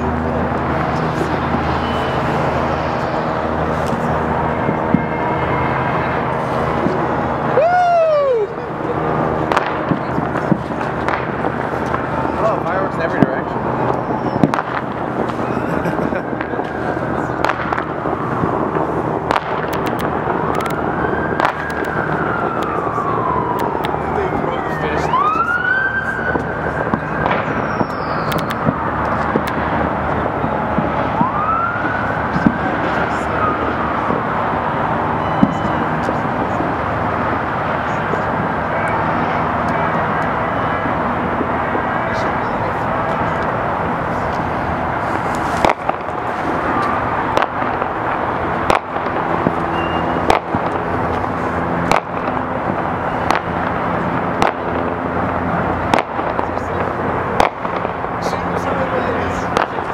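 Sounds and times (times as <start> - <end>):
distant fireworks popping: 0.0 - 7.5, 8.5 - 59.9
siren rising: 0.0 - 57.1
city noise: 0.0 - 59.9
steady background noise: 0.0 - 59.9.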